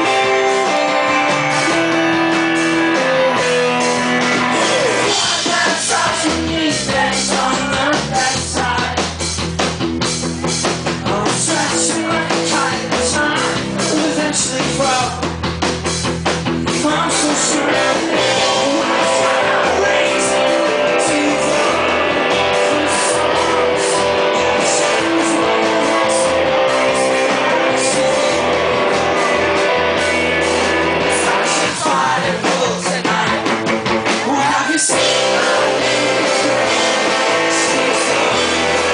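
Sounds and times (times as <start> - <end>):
person singing: 0.0 - 9.1, 10.9 - 15.2, 16.7 - 33.6, 34.2 - 38.9
drum kit: 0.0 - 38.9
electric guitars: 0.0 - 38.9.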